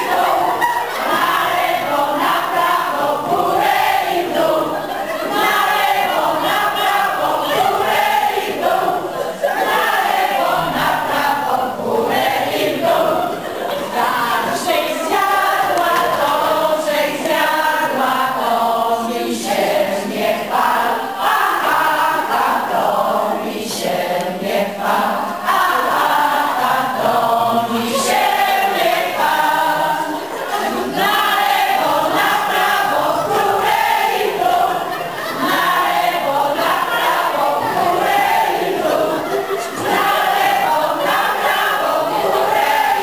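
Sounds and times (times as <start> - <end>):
group singing in chorus: 0.0 - 43.0.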